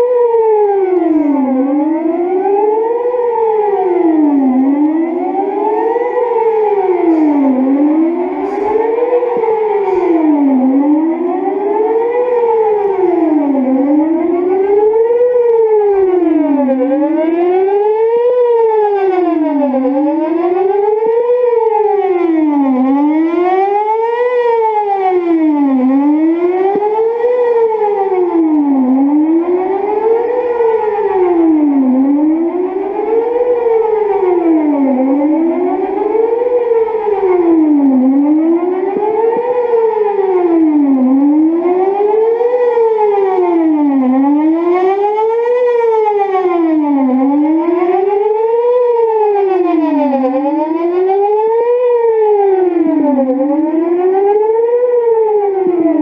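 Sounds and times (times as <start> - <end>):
tornado siren wailing: 0.0 - 56.0.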